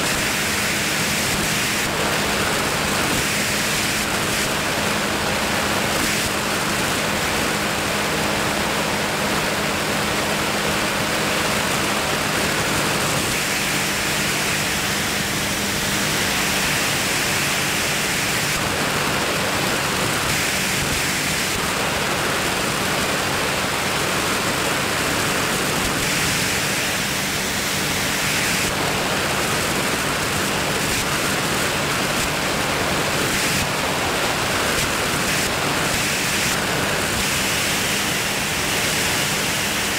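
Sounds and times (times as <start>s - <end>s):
rushing wind noise: 0.0s - 39.9s.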